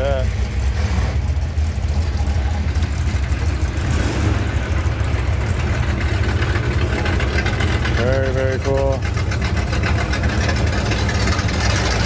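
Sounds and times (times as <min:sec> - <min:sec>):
car engine deep exhaust: 0:00.0 - 0:12.0.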